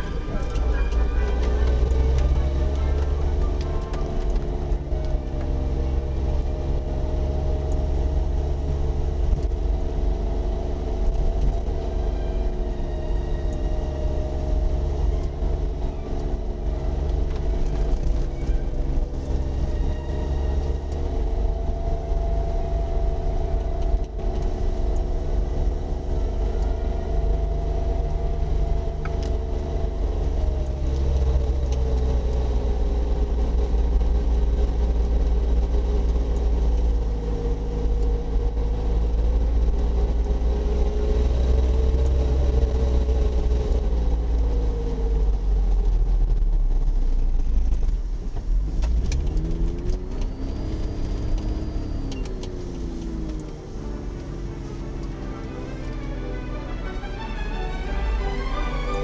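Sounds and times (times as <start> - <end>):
car engine cruising: 0.0 - 59.0
deep low rumble: 0.0 - 59.0.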